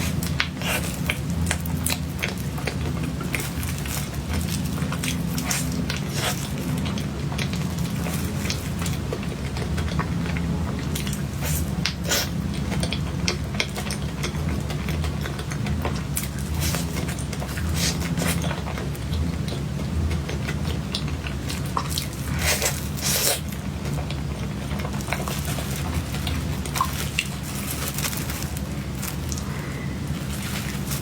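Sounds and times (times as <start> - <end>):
chewing soft cake: 0.0 - 31.0
low steady hum: 0.0 - 31.0.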